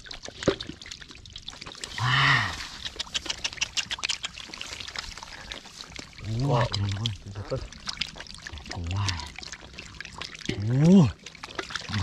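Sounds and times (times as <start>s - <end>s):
clicks and drips: 0.0s - 12.0s
muddy water sloshing and splashing: 0.0s - 12.0s.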